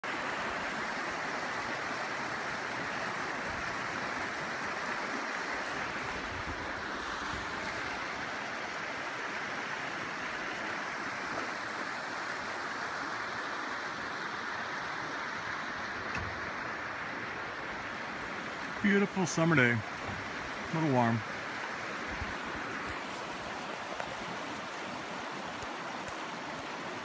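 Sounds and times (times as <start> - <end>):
creek running over rocks: 0.0 - 27.0.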